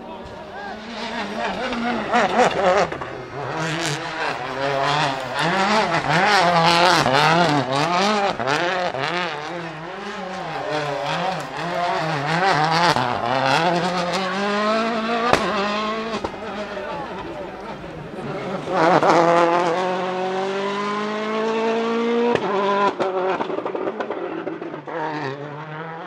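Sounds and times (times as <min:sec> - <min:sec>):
turbocharged engine revving: 0:00.0 - 0:26.0.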